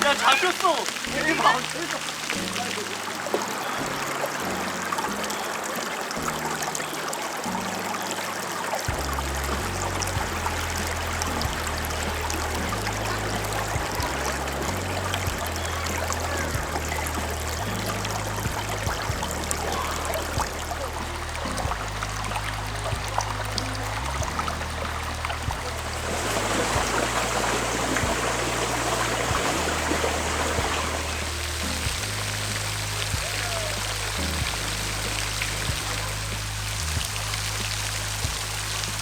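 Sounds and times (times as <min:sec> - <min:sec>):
background music bass notes: 0:00.0 - 0:39.0
stream running over rocks: 0:00.0 - 0:39.0.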